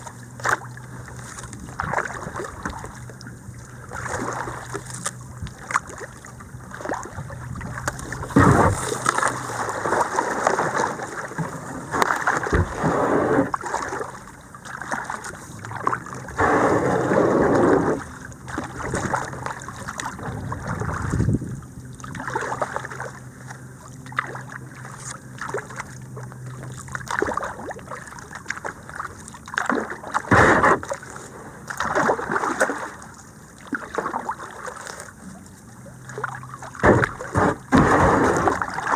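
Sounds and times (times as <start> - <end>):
kayak paddle splashing water: 0.0 - 38.9.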